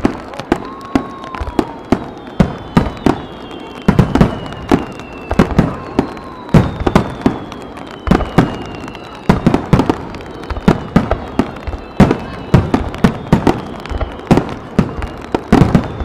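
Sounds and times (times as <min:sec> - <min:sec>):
fireworks booming: 0:00.0 - 0:16.0
fireworks whistling downward: 0:00.0 - 0:16.0.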